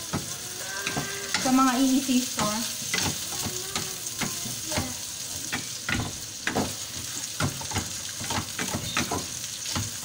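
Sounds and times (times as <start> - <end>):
meat sizzling in frying pan: 0.0 - 10.0
spatula scraping and knocking pan: 0.0 - 10.0.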